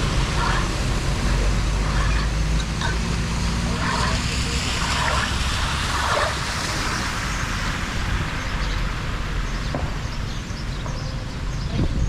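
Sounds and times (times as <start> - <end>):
water rushing through drain: 0.0 - 10.7.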